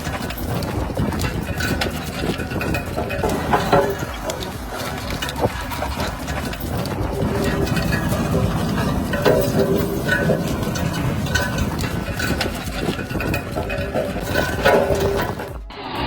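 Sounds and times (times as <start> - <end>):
heavy machine engine rumble: 0.0 - 16.0.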